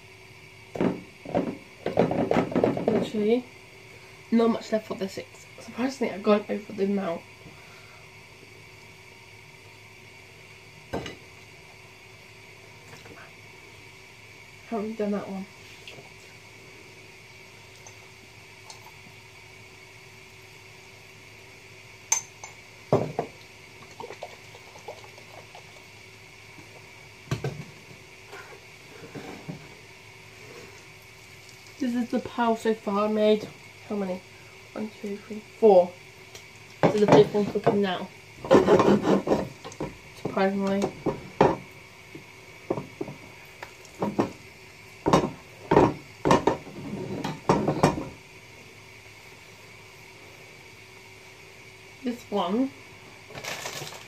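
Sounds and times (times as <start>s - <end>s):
cooking hiss and hum: 0.0s - 54.0s.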